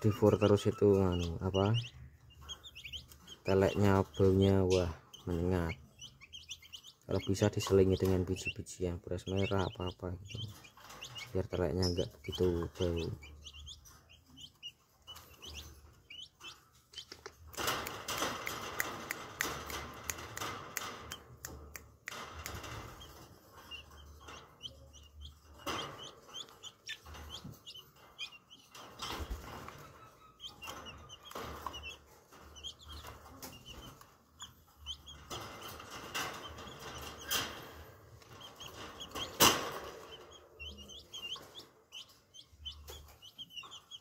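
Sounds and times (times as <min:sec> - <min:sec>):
chicks peeping: 0:00.0 - 0:44.0
wings fluttering and scuffling: 0:00.0 - 0:44.0.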